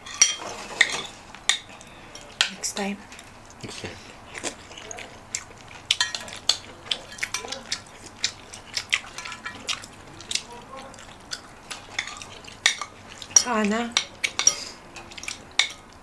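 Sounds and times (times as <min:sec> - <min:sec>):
cutlery clinking against dishes: 0:00.0 - 0:16.0.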